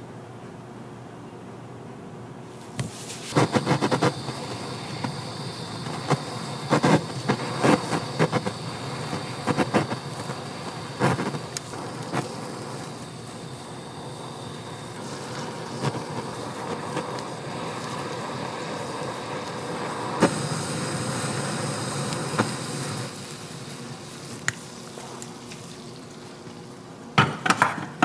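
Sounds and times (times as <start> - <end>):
steady kitchen hum: 0.0 - 28.0.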